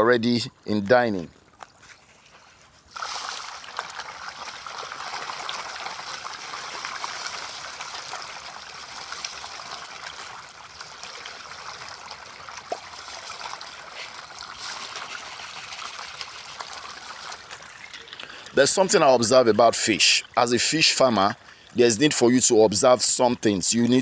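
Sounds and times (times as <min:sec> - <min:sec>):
fish splashing at surface: 0:02.4 - 0:22.1.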